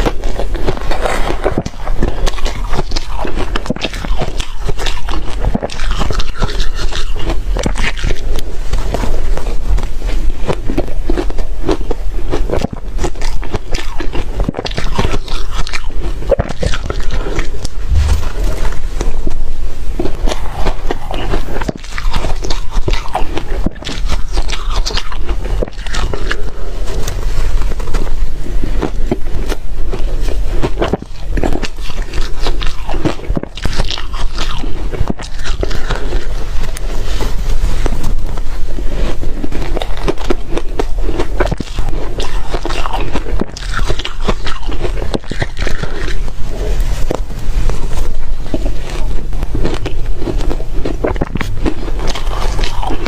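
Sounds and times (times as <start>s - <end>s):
ice being chewed: 0.0s - 53.0s.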